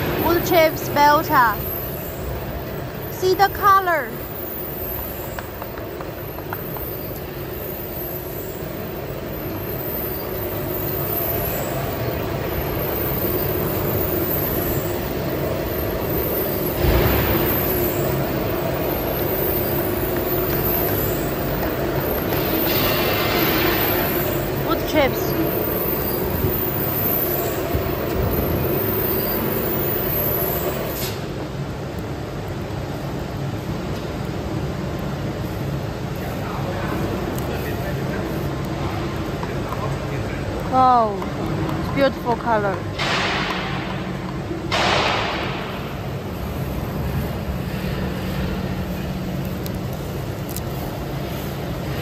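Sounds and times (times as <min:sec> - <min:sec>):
furnace mechanical rumble and hum: 0:00.0 - 0:52.0.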